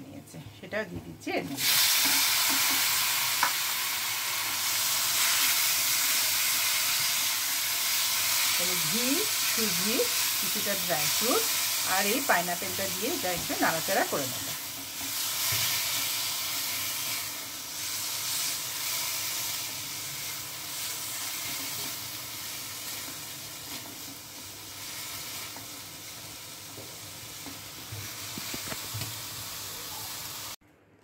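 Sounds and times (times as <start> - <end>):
food sizzling in a pan: 1.5 - 30.6.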